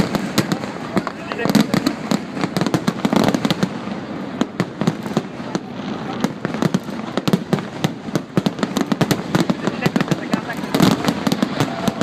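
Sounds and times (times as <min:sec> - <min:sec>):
fireworks bangs and crackling pops: 0:00.0 - 0:12.0.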